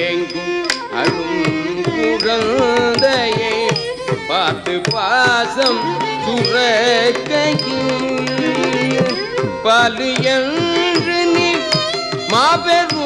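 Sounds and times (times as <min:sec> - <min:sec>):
man singing ornamented notes: 0:00.0 - 0:13.0
mridangam drum strokes: 0:00.0 - 0:13.0.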